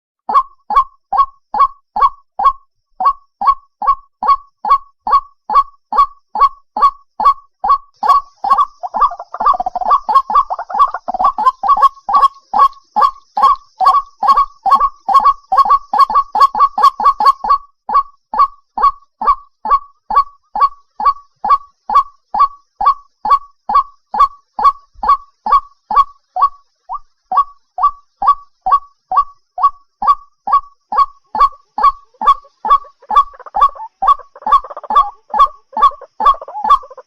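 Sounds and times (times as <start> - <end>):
waterhen calling short notes: 0.3 - 21.2, 23.7 - 37.0.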